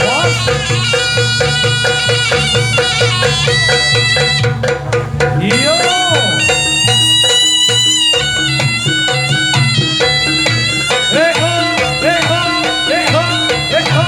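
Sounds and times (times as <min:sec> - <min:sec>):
gamelan-style percussion: 0:00.0 - 0:14.0
shrill reed wind instrument: 0:00.0 - 0:14.0.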